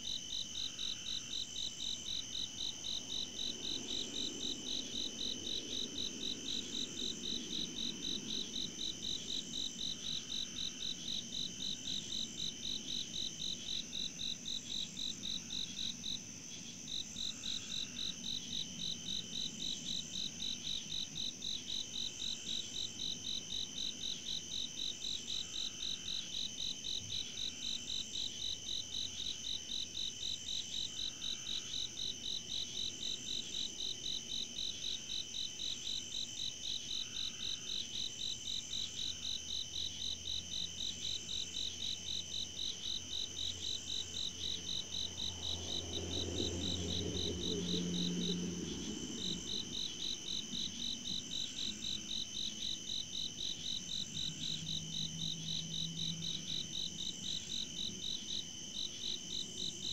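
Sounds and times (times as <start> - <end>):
crickets chirping: 0.0 - 59.9
high insect trill: 0.0 - 59.9
slower repeating insect calls: 0.0 - 59.9.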